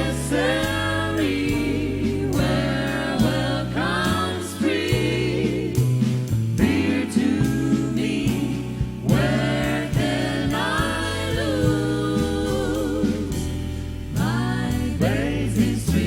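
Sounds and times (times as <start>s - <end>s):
vocal group singing in harmony: 0.0s - 16.0s
walking bass line: 0.0s - 16.0s.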